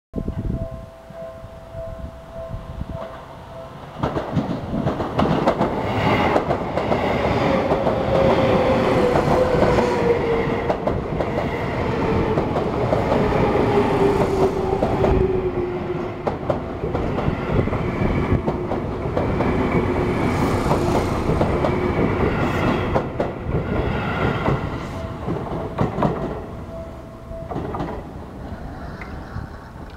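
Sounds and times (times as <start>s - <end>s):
wheels clacking over rail joints: 3.0s - 29.2s.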